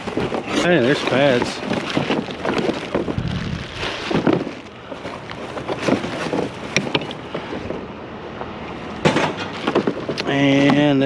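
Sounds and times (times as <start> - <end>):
box knocks and rustles: 0.0 - 7.7, 9.0 - 11.0.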